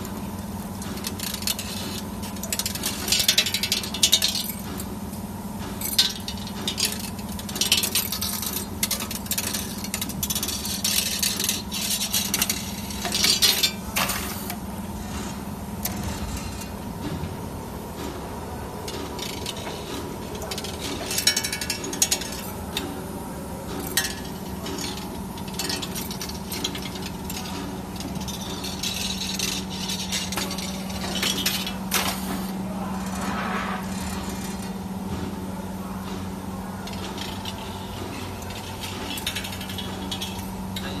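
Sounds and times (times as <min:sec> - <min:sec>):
metallic clicks and clanks: 0:00.0 - 0:17.3, 0:17.9 - 0:35.4, 0:36.0 - 0:41.0
machine electric hum: 0:00.0 - 0:41.0.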